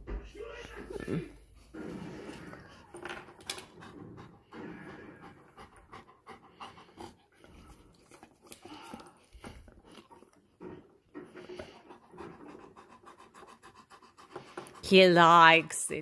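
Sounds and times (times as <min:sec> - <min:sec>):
dog panting: 0:01.6 - 0:08.6, 0:09.3 - 0:16.0.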